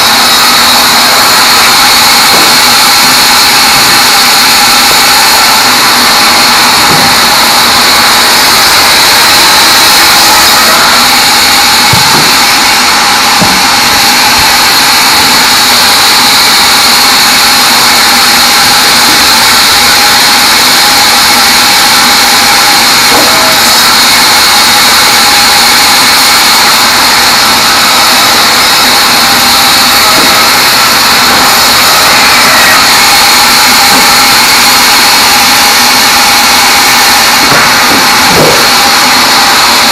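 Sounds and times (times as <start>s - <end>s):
band saw whining: 0.0s - 39.9s.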